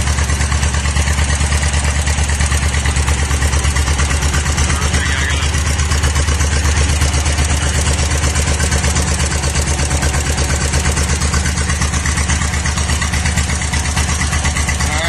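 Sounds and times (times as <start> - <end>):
bulldozer engine idling: 0.0 - 15.0.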